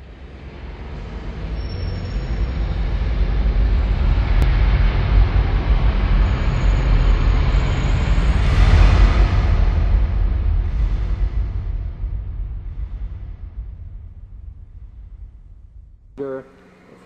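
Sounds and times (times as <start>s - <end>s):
low rumbling rush: 0.0s - 16.2s.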